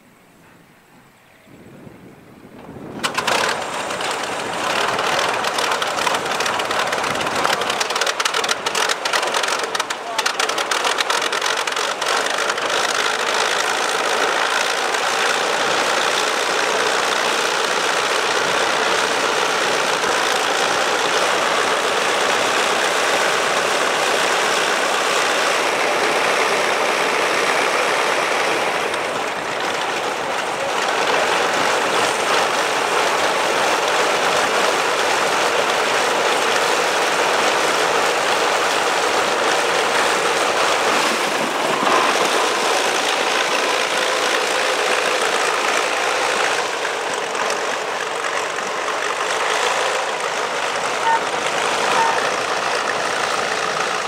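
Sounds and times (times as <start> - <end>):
biplane engine running: 1.8 - 54.0.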